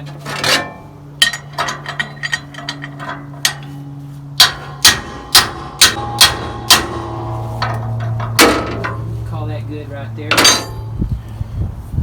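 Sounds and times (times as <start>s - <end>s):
light metal clicks and knocks: 0.0s - 9.2s, 10.2s - 11.0s
hammer striking metal: 0.3s - 11.0s.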